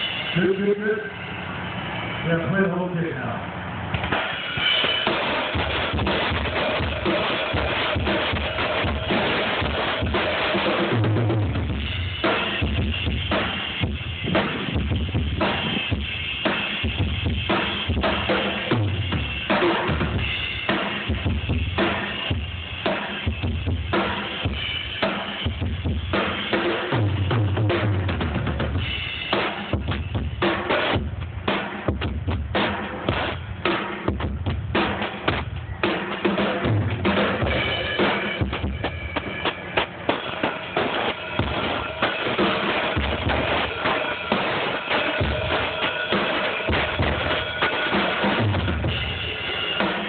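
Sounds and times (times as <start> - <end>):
drum kit groove: 0.0 - 1.1, 3.9 - 50.0.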